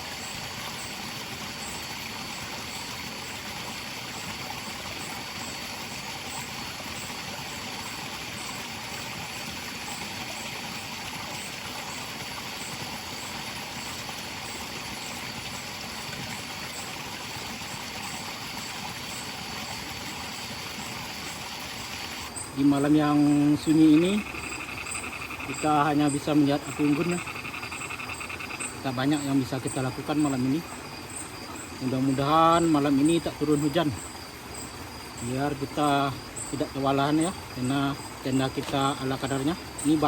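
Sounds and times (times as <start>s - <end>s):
forest stream rushing: 0.0s - 40.0s
high insect drone: 0.0s - 40.0s
insect chirps: 0.0s - 40.0s.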